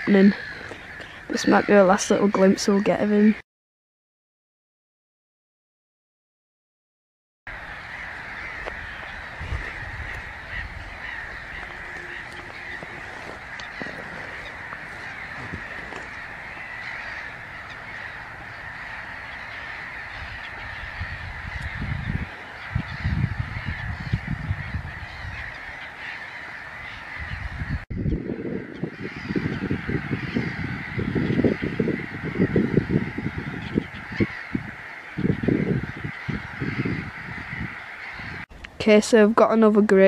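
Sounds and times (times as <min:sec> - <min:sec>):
distant waterbirds calling: 0:00.0 - 0:03.4, 0:07.5 - 0:40.0.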